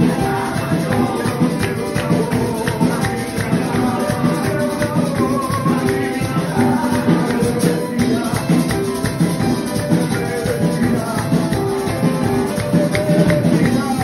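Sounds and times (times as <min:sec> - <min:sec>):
latin praise band music: 0:00.0 - 0:14.0
shaken rattling percussion: 0:00.0 - 0:14.0.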